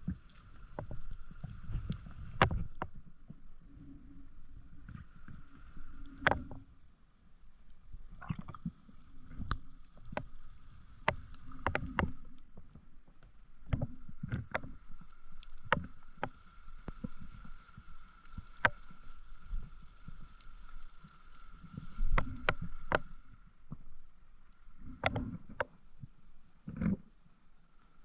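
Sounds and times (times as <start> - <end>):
underwater moving water rumble: 0.0 - 28.0.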